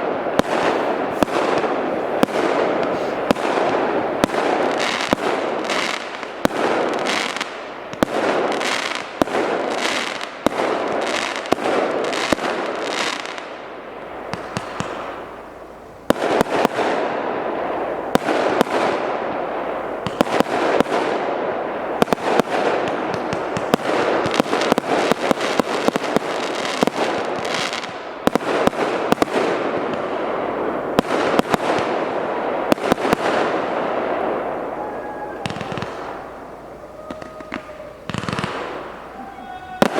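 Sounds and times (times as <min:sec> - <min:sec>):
aerial firework bursts crackling: 0:00.0 - 0:39.9.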